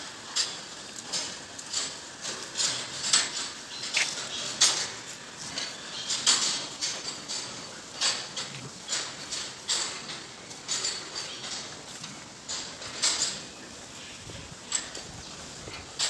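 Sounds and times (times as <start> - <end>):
cows tearing and crunching fodder: 0.0 - 16.0
metal gates clacking: 0.3 - 16.0.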